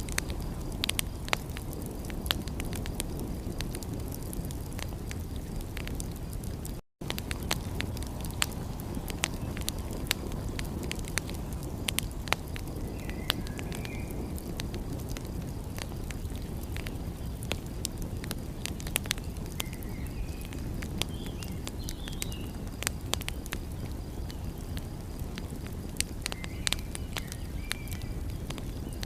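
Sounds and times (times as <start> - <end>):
sharp pops and snaps: 0.0 - 29.0
wood fire crackling: 0.0 - 29.0.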